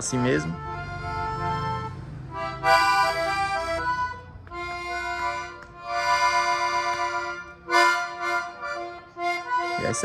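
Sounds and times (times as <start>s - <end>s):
accordion playing: 0.0s - 10.0s.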